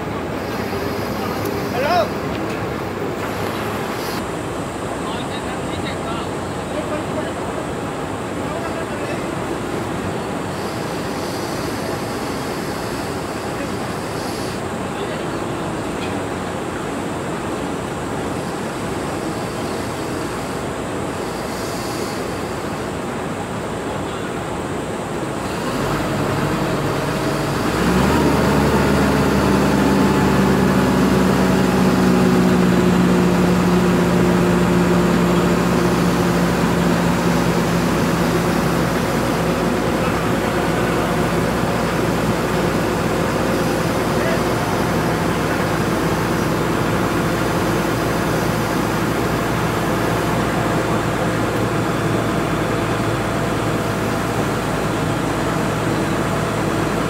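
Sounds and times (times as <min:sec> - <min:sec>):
crane engine under load: 0:00.0 - 0:57.0.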